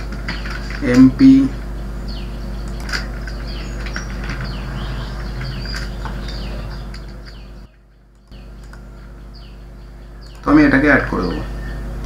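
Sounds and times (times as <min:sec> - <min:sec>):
low electrical hum: 0:00.0 - 0:12.0
small birds chirping: 0:00.0 - 0:12.0.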